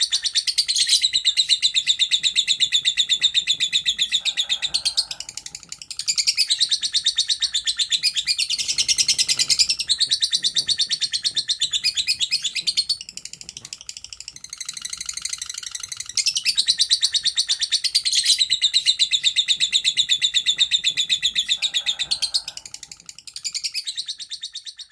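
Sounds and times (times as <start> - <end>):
lovebird chatter: 0.0 - 24.9.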